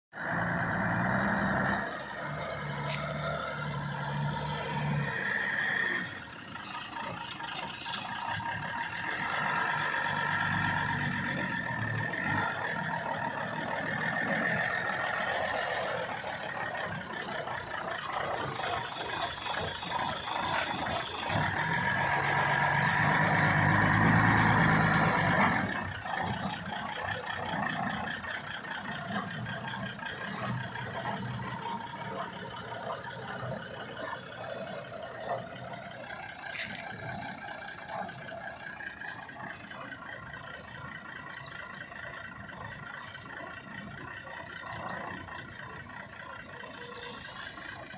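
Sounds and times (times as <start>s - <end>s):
truck diesel engine running: 0.1s - 47.9s.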